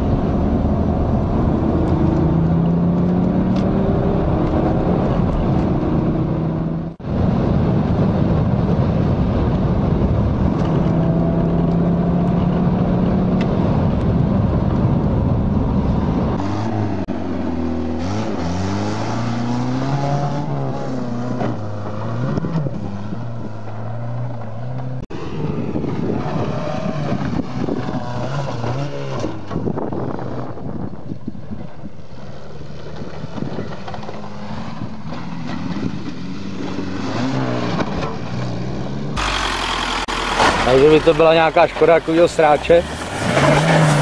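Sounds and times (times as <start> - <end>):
car engine revving: 0.0 - 30.8, 32.2 - 44.0.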